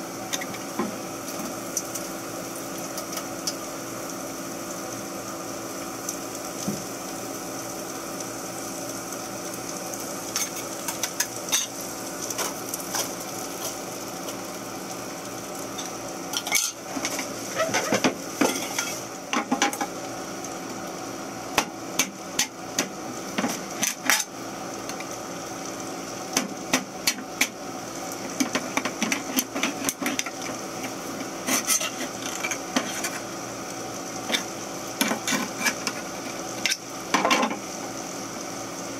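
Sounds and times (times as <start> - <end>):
onions frying in a pan: 0.0 - 38.9.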